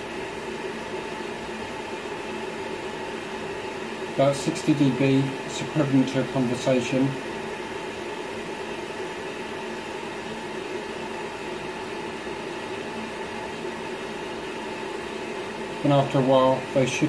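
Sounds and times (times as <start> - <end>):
cooling fans whirring: 0.0 - 17.0
faint hum: 0.0 - 17.0.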